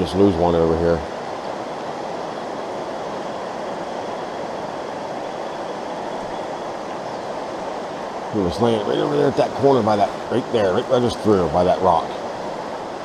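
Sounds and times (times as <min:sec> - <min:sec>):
stream water flowing over rocks: 0:00.0 - 0:13.0.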